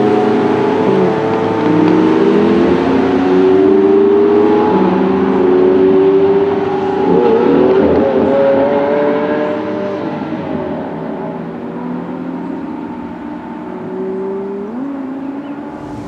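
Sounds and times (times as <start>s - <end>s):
sports car engine at high revs: 0.0s - 16.0s.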